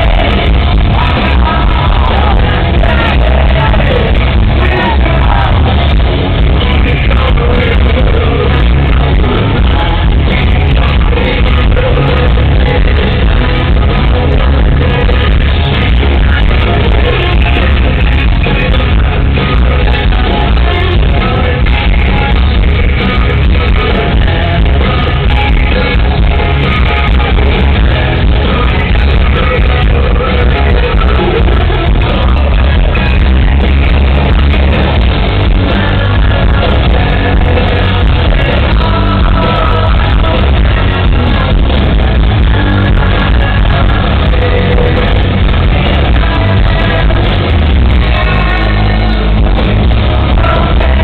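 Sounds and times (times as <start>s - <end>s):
drums: 0.0s - 51.0s
loud guitars: 0.0s - 51.0s
person singing: 0.0s - 51.0s.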